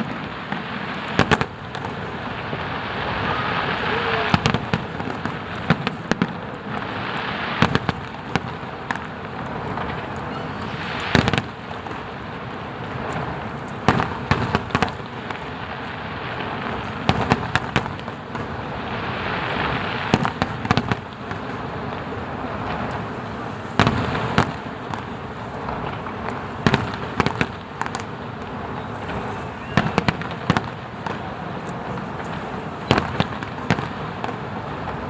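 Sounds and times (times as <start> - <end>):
fireworks booming bursts: 0.0 - 35.0
fireworks crackling: 0.0 - 35.0.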